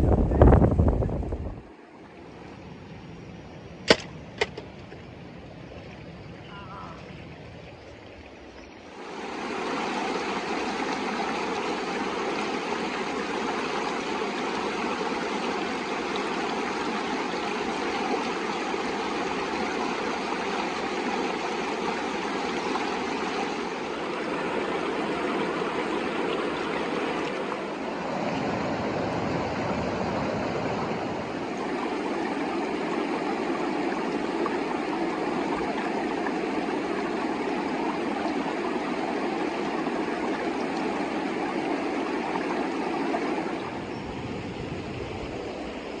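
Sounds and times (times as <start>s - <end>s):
river water rushing: 0.0s - 2.5s, 5.5s - 46.0s.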